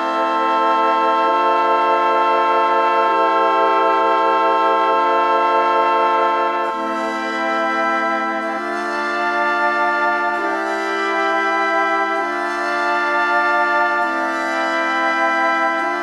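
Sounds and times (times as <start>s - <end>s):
sustained music chords: 0.0s - 16.0s.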